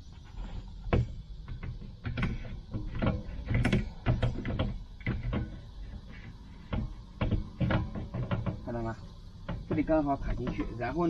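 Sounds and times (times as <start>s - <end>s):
fan panel knocking and rattling: 0.8s - 11.0s.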